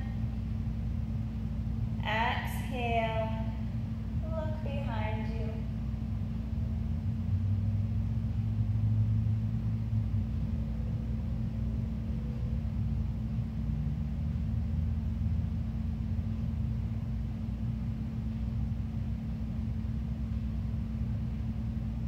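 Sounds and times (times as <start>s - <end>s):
constant hum: 0.0s - 22.0s
low background rumble: 0.0s - 22.0s.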